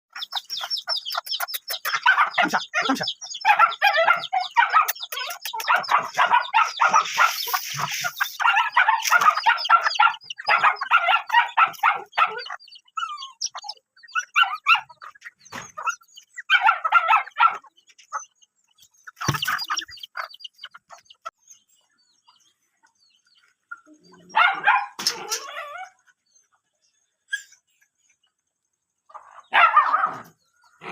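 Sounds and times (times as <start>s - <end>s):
dogs yipping and whining: 0.1s - 21.3s, 23.7s - 26.6s, 27.2s - 27.7s, 29.1s - 30.9s.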